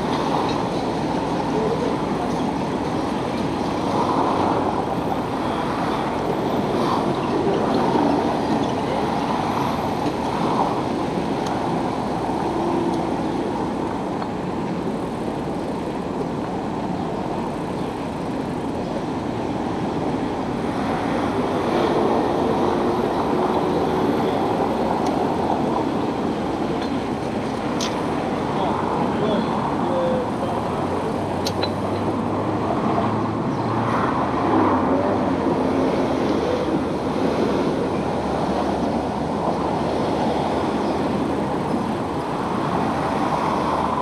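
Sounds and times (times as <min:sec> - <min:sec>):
street traffic: 0:00.0 - 0:44.0.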